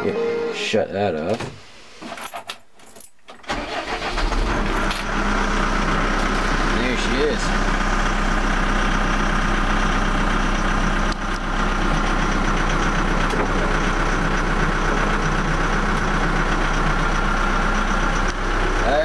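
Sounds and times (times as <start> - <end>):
diesel engine idling: 3.5 - 19.0.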